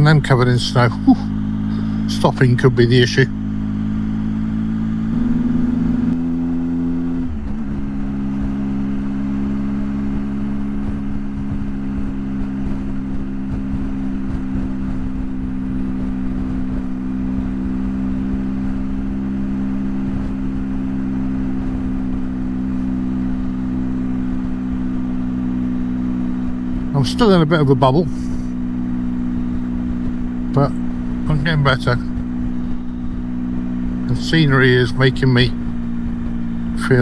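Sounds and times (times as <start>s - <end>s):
motorcycle engine running: 0.0s - 37.0s
road noise: 0.0s - 37.0s.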